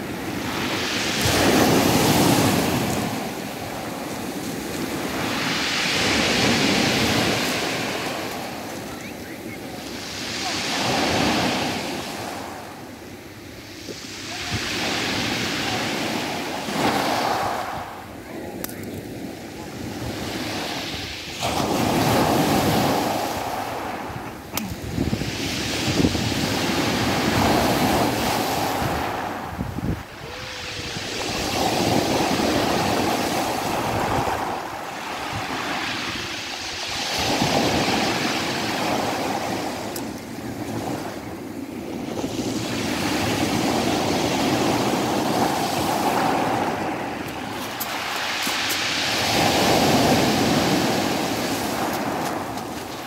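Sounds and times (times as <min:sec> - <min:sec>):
waves breaking on pebble beach: 0:00.0 - 0:12.8, 0:13.6 - 0:53.0.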